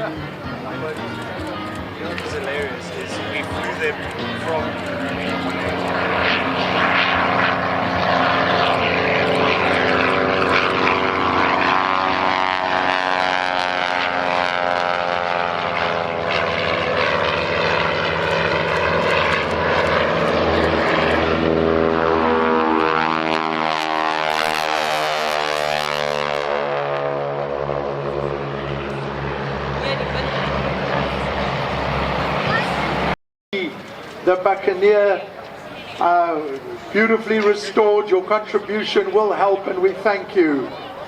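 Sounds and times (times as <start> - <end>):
propeller aircraft flying past: 0.0 - 33.2.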